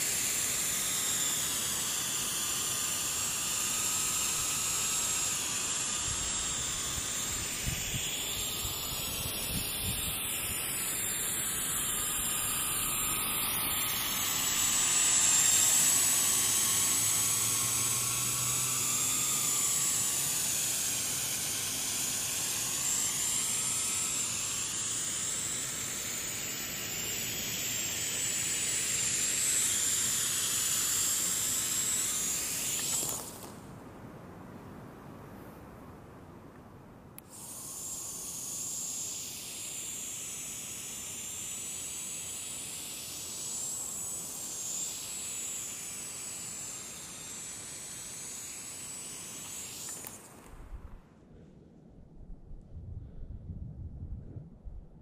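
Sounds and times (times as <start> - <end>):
quadcopter motors whining: 0.0 - 33.6, 37.2 - 51.0
propellers rushing hiss: 0.0 - 33.8, 37.2 - 51.0.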